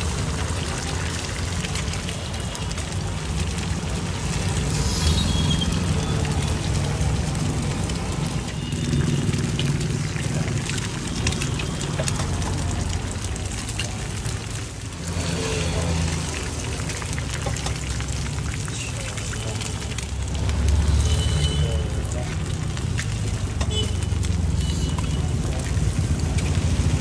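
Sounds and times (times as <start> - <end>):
eggs sizzling on a griddle: 0.0 - 27.0
street traffic rumble: 0.0 - 27.0.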